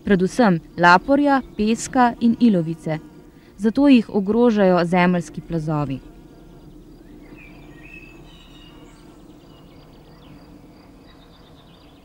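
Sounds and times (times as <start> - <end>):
faint birdsong: 0.0 - 12.0
low hum: 0.0 - 12.0.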